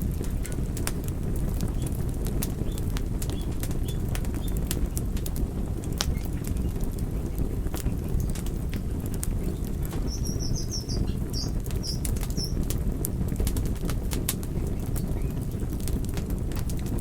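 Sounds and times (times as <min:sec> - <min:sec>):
burning wood crackling and popping: 0:00.0 - 0:17.0
low rumble of flames: 0:00.0 - 0:17.0.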